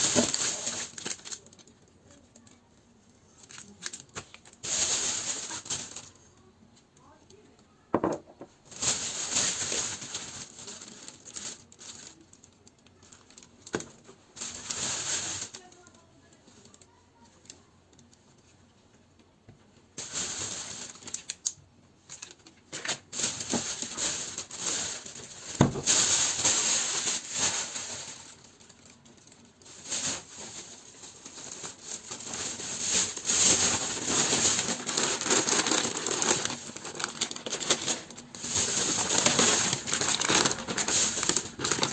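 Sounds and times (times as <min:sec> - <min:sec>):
plastic packaging crinkling: 0:00.0 - 0:18.2, 0:20.0 - 0:41.9.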